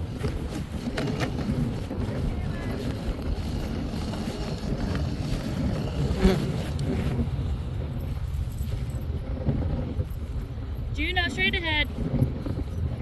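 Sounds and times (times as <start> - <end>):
sled running over snow: 0.0 - 13.0.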